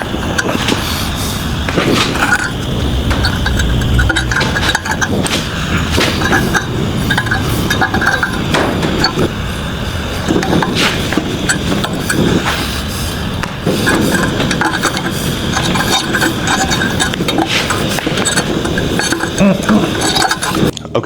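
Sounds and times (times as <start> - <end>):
gas torch hissing: 0.0 - 20.7.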